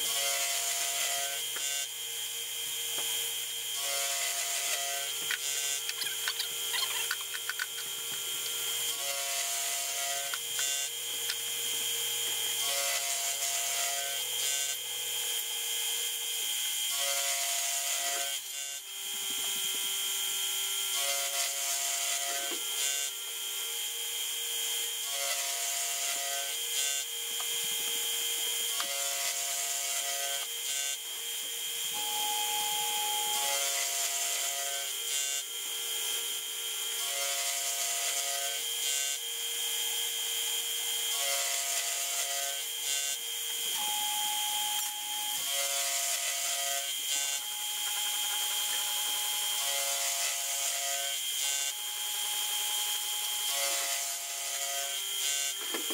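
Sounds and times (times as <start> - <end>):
milling machine high whine: 0.0 - 55.9.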